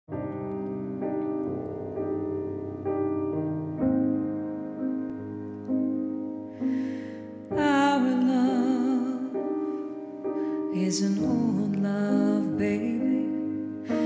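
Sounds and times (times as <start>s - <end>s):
grand piano ballad chords: 0.1s - 14.0s.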